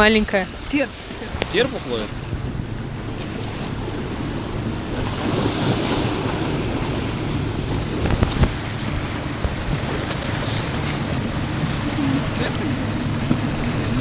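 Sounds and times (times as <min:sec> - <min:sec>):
sea washing against rocks: 0:00.0 - 0:14.0
wind buffeting microphone: 0:00.0 - 0:14.0.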